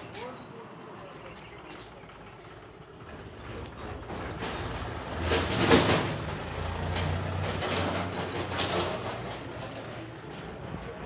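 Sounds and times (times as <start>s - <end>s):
train passing: 1.9s - 11.0s.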